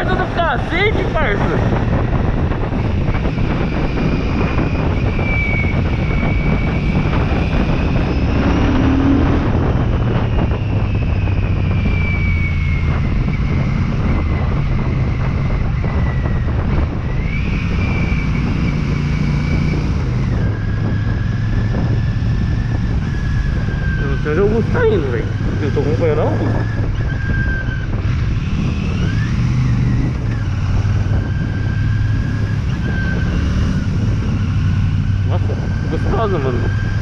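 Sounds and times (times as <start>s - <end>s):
motorcycle engine revving: 0.0s - 37.0s
wind noise on microphone: 0.0s - 37.0s.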